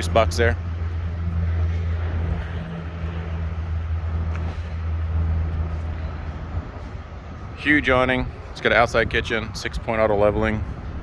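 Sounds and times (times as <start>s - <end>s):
outdoor background noise: 0.0s - 11.0s
vehicle engine humming: 0.0s - 11.0s.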